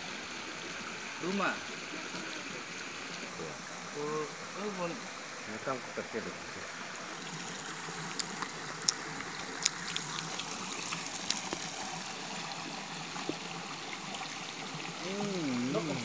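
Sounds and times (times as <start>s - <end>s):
stream flowing water: 0.0s - 16.0s.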